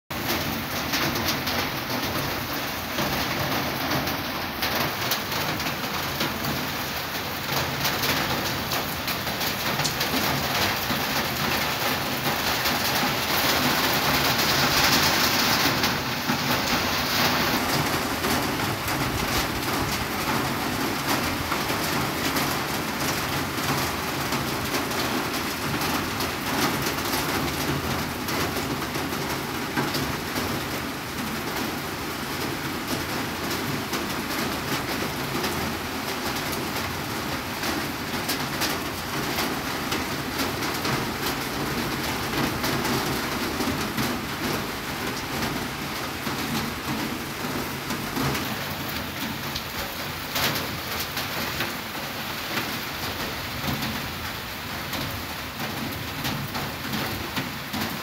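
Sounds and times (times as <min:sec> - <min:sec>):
rain-like crackling hiss: 0:00.2 - 0:58.0.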